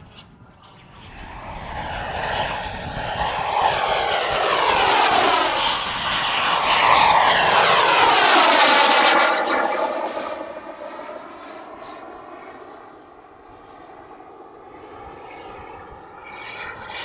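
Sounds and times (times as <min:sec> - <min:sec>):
model jet engine whine: 0:00.0 - 0:17.0.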